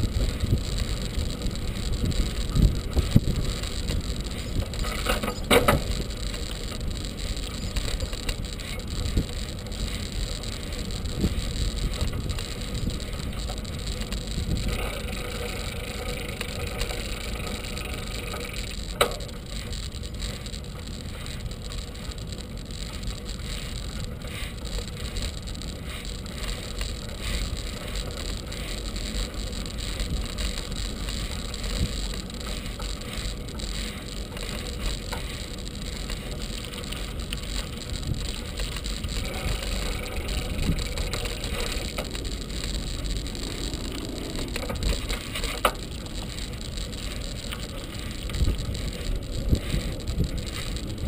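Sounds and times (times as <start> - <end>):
bicycle rolling on pavement: 0.0 - 51.0.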